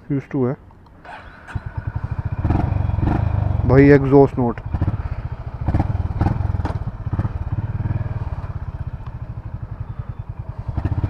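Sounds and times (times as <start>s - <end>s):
motorcycle engine idling: 1.0s - 11.0s.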